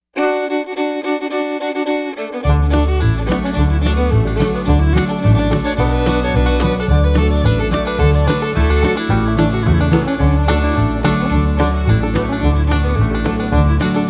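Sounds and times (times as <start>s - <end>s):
bluegrass background music: 0.2s - 14.0s.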